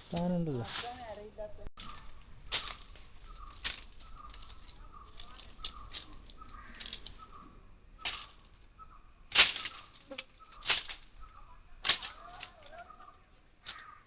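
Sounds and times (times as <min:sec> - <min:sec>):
birds chirping sharp calls: 0:01.8 - 0:14.0.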